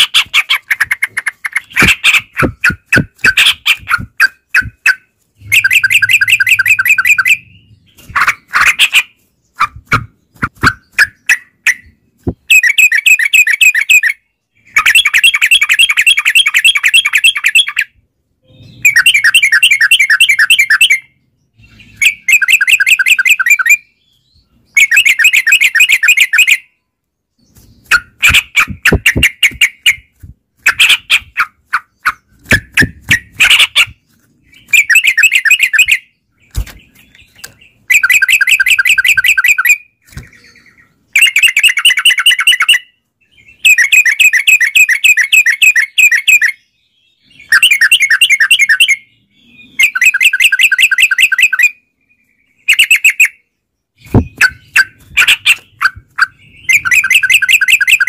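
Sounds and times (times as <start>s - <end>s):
bird chattering song: 0.0s - 58.0s
sharp bird chirps: 0.0s - 58.0s.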